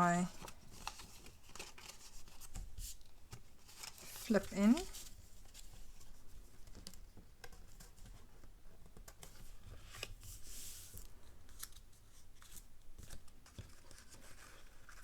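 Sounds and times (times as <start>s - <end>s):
paper rustling: 0.3s - 15.0s.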